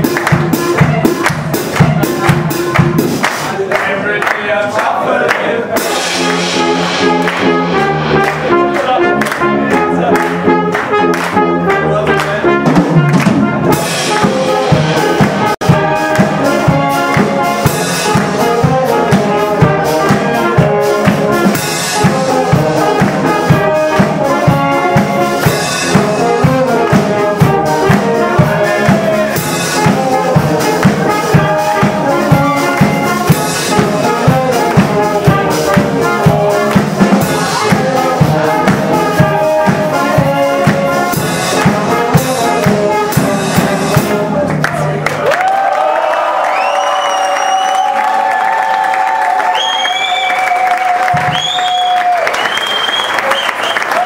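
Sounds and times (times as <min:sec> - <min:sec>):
steady drum beat: 0:00.0 - 0:45.0, 0:50.9 - 0:51.6
brass band playing: 0:00.0 - 0:54.0.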